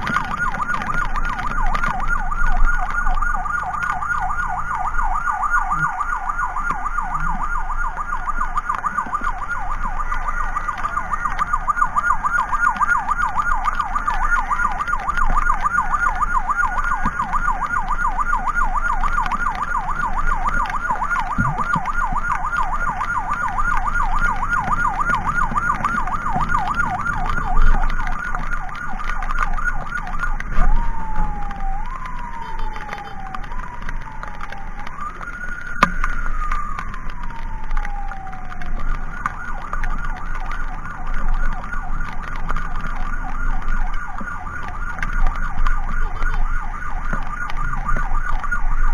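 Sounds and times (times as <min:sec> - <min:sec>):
emergency siren yelp and wail: 0:00.0 - 0:48.9
vehicle rumble: 0:00.0 - 0:48.9.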